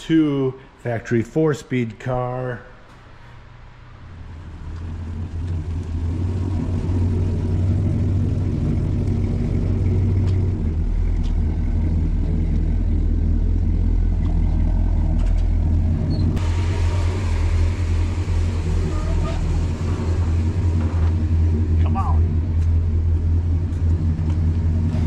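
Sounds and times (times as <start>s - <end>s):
truck engine idling: 3.8s - 25.0s.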